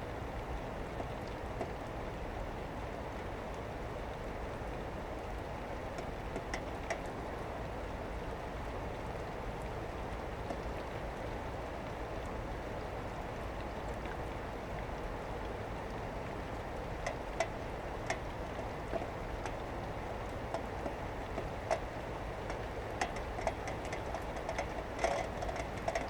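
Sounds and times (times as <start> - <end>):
steady rain falling: 0.0 - 26.0
sharp drips: 0.1 - 26.0.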